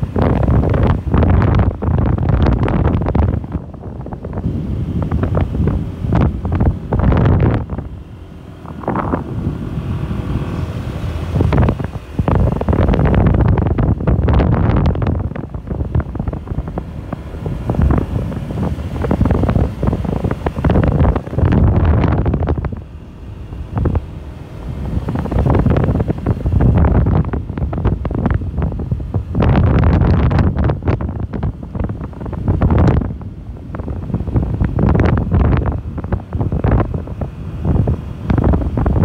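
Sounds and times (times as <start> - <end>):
motorcycle engine running: 0.0 - 39.0
wind buffeting microphone: 0.0 - 39.0.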